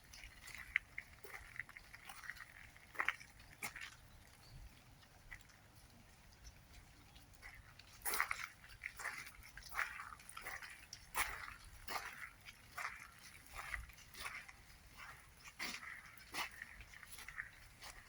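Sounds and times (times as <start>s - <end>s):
footsteps on wet trail: 0.0s - 18.0s.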